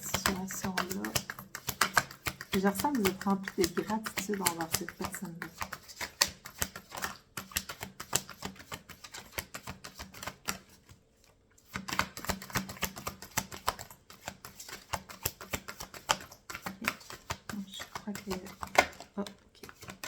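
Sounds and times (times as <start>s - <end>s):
cards being shuffled: 0.0s - 20.0s.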